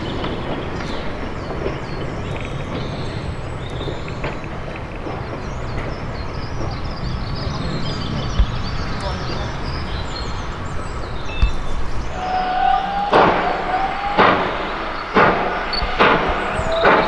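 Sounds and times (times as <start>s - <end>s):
birds chirping: 0.0s - 17.0s
train rumbling slowly: 0.0s - 17.0s.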